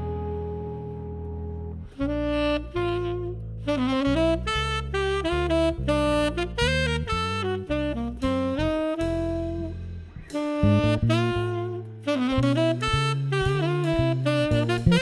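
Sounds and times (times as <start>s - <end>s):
tenor saxophone solo: 0.0s - 15.0s.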